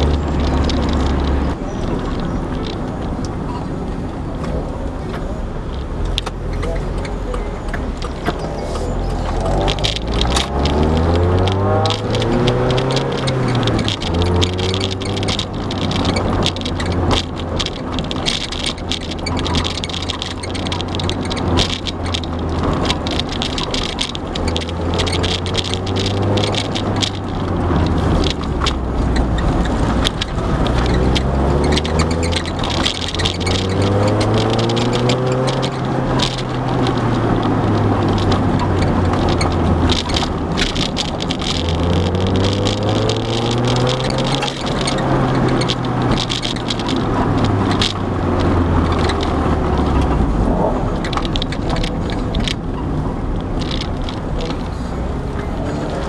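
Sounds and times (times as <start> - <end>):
car engine accelerating: 0.0 - 56.0
road noise: 0.0 - 56.0
short knocks and rattles: 0.0 - 56.0.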